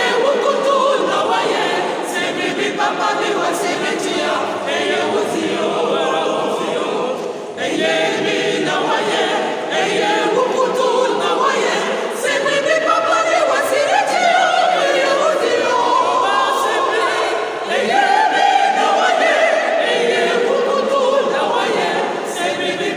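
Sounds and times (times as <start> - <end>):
mixed choir singing unaccompanied: 0.0 - 22.9.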